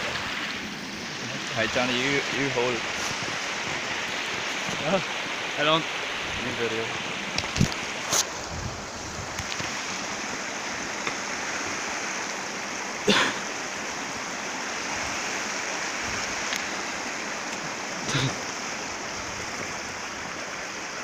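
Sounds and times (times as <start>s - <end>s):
river rushing water: 0.0s - 21.0s.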